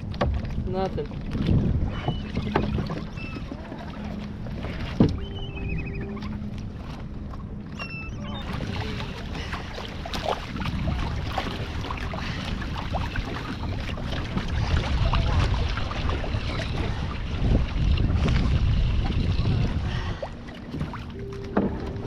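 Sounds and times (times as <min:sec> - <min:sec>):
water splashing around kayak: 0:00.0 - 0:22.0
wind rumble on microphone: 0:00.0 - 0:22.0.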